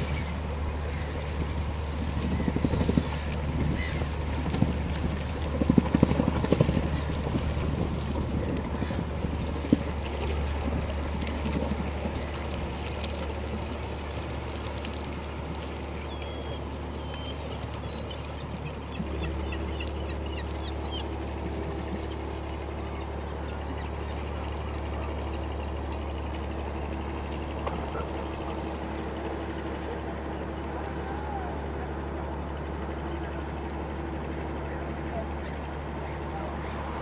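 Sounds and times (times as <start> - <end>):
higher steady hum: 0.0 - 37.0
ship engine low hum: 0.0 - 37.0.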